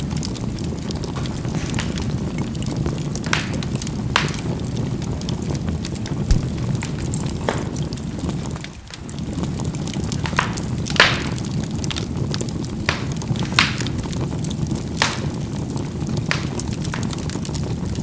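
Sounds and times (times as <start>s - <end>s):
charcoal popping: 0.0s - 18.0s
fire rushing: 0.0s - 18.0s.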